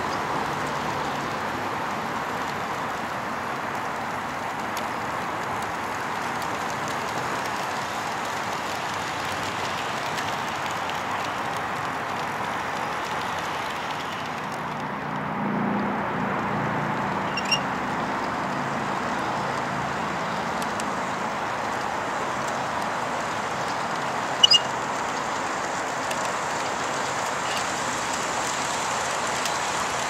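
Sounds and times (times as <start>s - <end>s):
model train rolling on track: 0.0s - 30.0s
steady rushing background noise: 0.0s - 30.0s.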